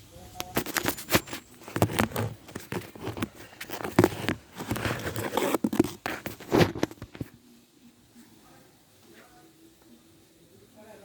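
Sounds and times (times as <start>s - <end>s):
crackling and rustling: 0.0s - 9.9s.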